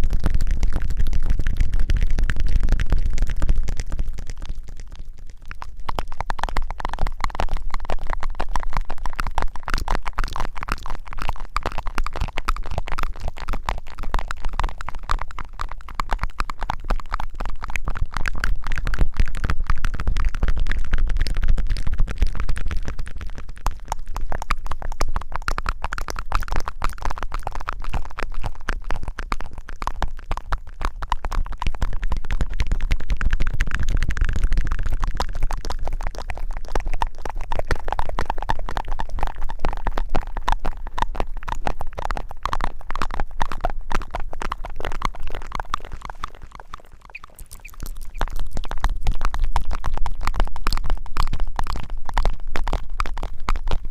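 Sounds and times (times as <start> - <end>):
crackling and rubbing on microphone: 0.0 - 53.9.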